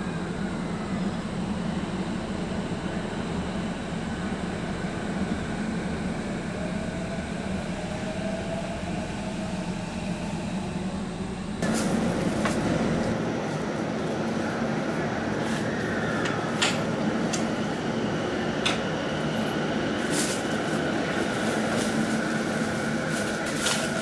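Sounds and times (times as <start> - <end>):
electric train humming: 0.0 - 24.0
hissy railway-side noise: 0.0 - 24.0.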